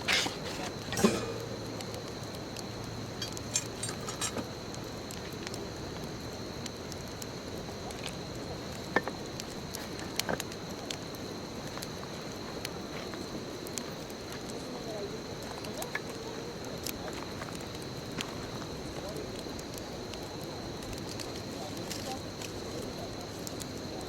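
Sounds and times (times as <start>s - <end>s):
bonfire hissing and crackling: 0.0s - 24.0s.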